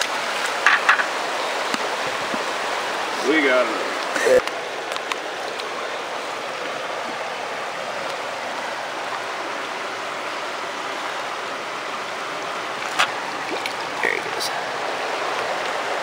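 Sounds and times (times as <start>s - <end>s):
stream running over rocks: 0.0s - 16.0s.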